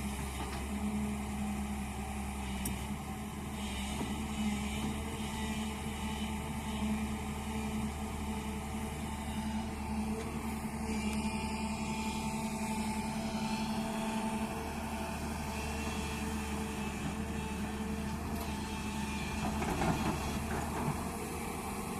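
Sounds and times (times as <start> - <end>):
heavy machine engine running: 0.0 - 21.9.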